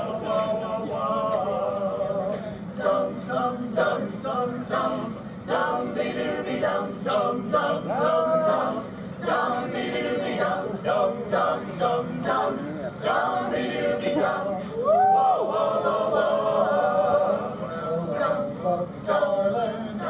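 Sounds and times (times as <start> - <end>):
mixed chorus singing a cappella: 0.0 - 20.0.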